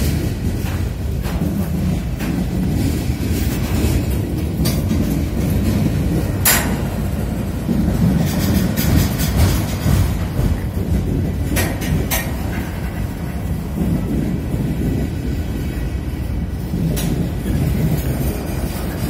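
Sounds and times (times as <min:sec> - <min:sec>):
freight train rumbling: 0:00.0 - 0:19.0.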